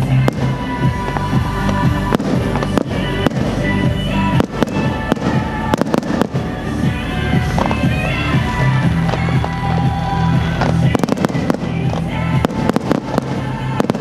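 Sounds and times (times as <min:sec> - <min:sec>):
fireworks banging: 0:00.0 - 0:14.0
music playing: 0:00.0 - 0:14.0.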